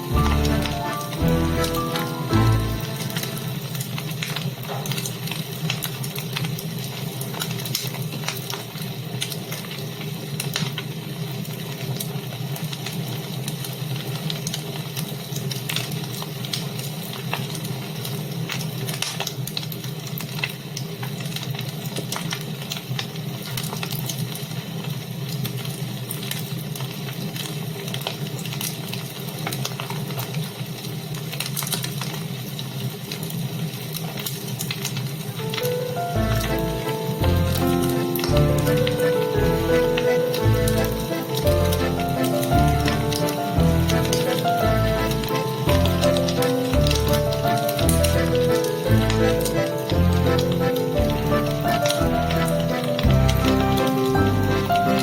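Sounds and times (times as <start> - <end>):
wood fire crackling and hissing: 0.0 - 55.0.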